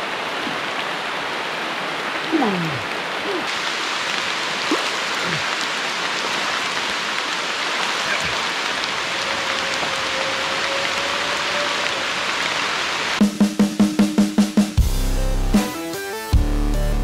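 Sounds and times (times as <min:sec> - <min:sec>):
steady rain falling: 0:00.0 - 0:14.8.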